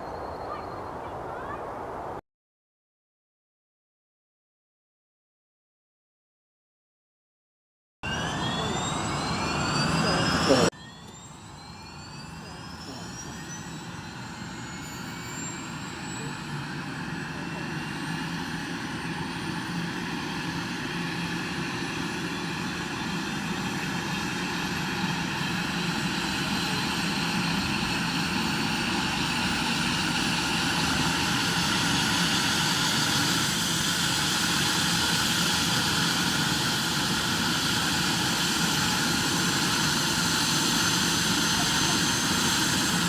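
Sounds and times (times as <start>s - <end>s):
helicopter turbine engines starting up: 8.0s - 43.0s.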